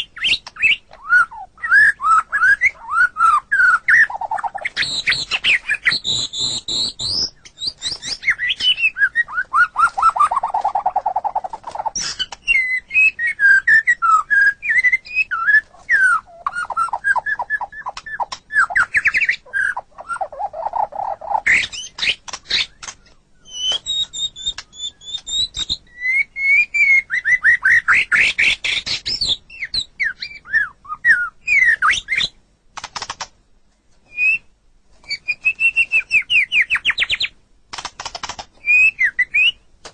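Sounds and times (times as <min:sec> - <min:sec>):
songbird singing varied song: 0:00.0 - 0:32.4, 0:34.1 - 0:37.4, 0:38.6 - 0:39.7.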